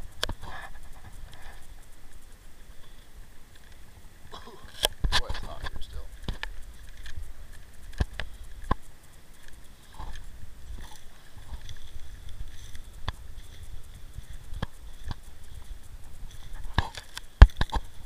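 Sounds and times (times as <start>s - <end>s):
footsteps on ash-covered ground: 0.3s - 18.0s
twigs snapping underfoot: 3.5s - 18.0s.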